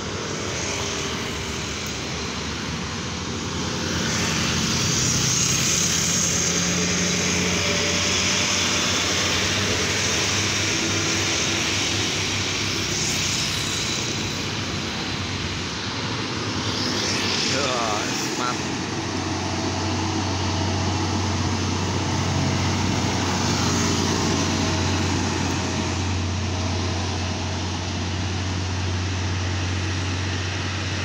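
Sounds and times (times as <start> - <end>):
diesel trucks climbing hill: 0.0 - 31.0
motor scooters passing: 0.0 - 31.0.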